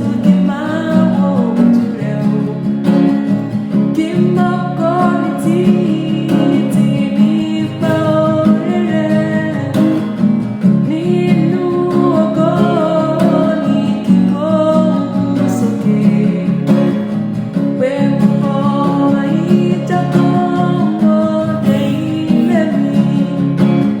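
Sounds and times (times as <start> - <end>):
person singing a hymn: 0.0 - 2.8, 3.9 - 10.0, 10.8 - 16.9, 17.8 - 24.0
acoustic guitar accompaniment: 0.0 - 24.0.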